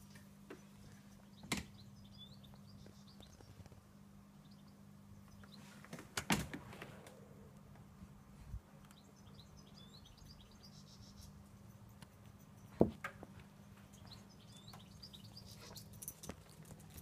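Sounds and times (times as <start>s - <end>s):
small birds chirping: 0.0s - 6.0s, 7.1s - 12.8s, 13.4s - 17.0s.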